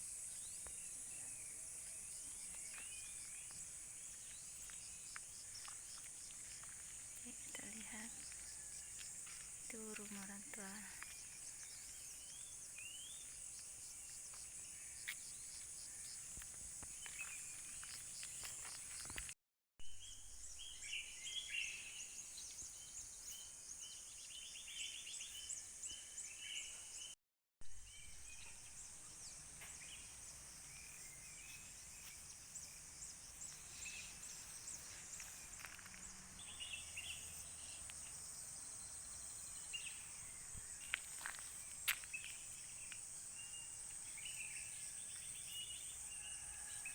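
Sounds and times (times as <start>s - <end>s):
small birds chirping: 0.0s - 19.4s, 20.0s - 27.2s, 27.9s - 46.9s.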